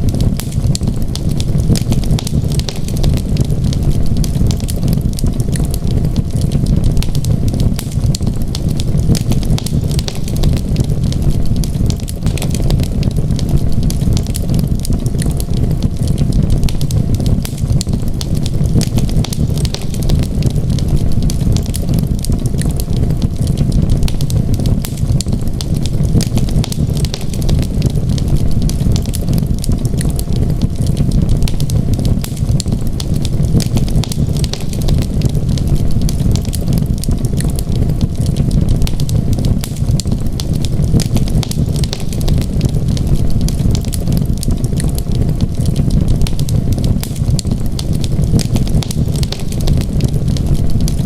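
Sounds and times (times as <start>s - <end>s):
steady low rumble: 0.0s - 51.0s
wood fire crackling: 0.0s - 51.0s.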